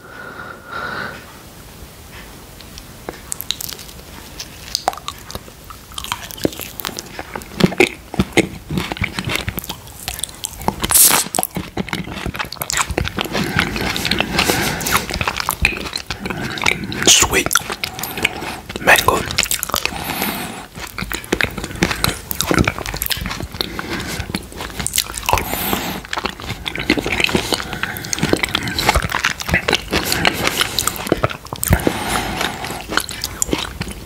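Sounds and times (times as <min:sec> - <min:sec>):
wet lip smacks and chewing: 0:02.6 - 0:34.0.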